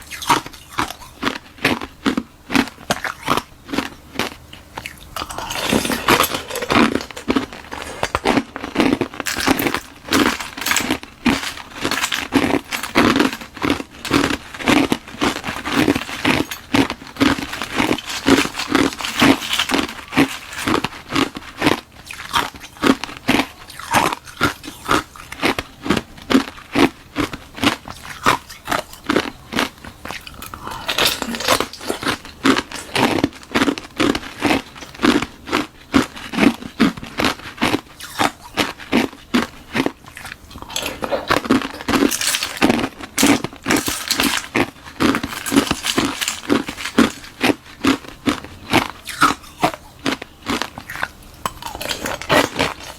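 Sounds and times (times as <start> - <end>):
crunching and chewing ice: 0.0 - 52.9.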